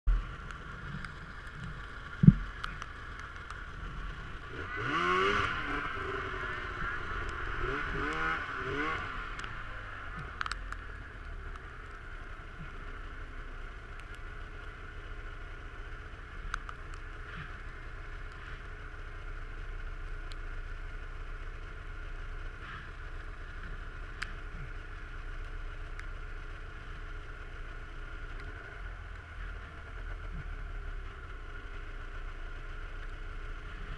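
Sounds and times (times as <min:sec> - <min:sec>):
snowmobile engine running: 0:00.1 - 0:33.9.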